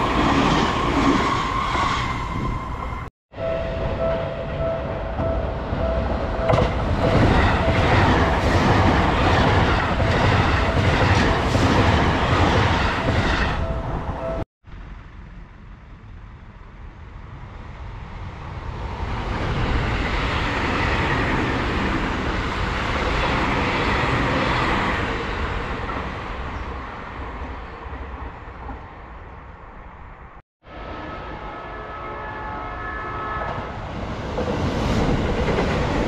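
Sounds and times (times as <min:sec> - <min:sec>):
train passing at speed: 0:00.0 - 0:36.0.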